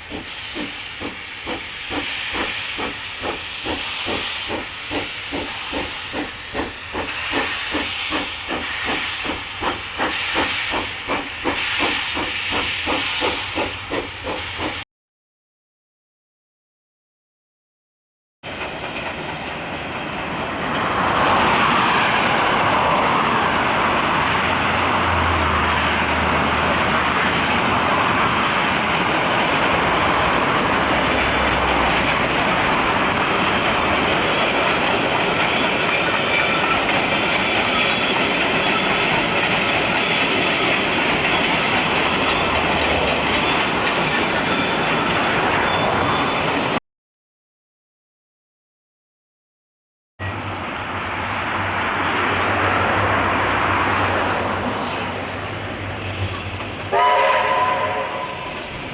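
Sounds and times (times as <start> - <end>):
train wheels rumbling on track: 0.0 - 14.8, 18.4 - 46.8, 50.2 - 58.9.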